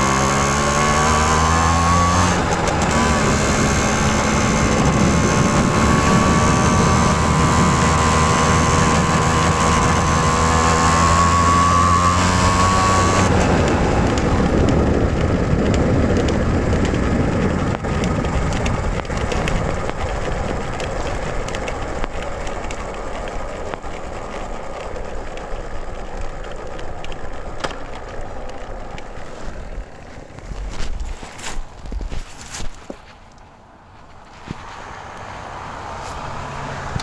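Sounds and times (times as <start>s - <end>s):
moped two-stroke engine: 0.0s - 37.0s
tyre and wind rolling noise: 0.0s - 37.0s.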